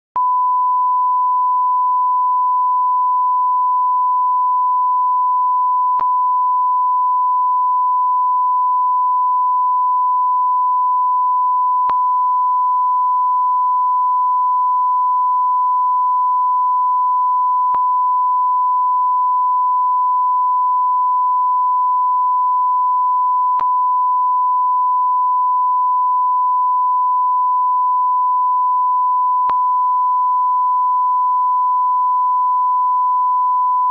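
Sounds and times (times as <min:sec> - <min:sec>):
electronic sine tone: 0:00.2 - 0:33.9.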